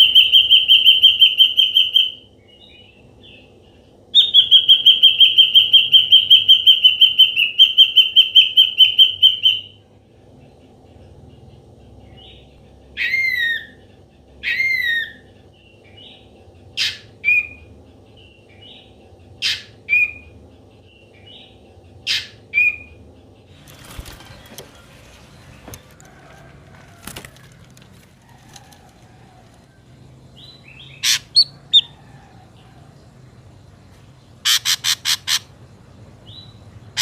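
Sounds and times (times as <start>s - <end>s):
bird calling: 0.0s - 2.3s, 4.1s - 9.8s, 10.9s - 33.1s, 34.4s - 35.6s.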